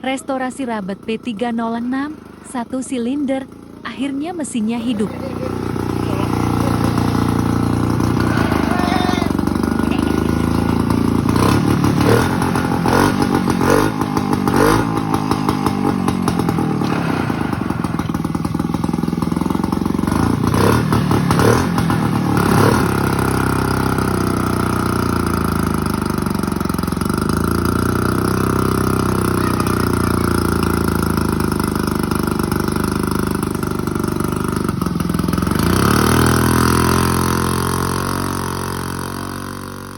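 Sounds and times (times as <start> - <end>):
single-cylinder pump engine running: 0.0 - 39.9.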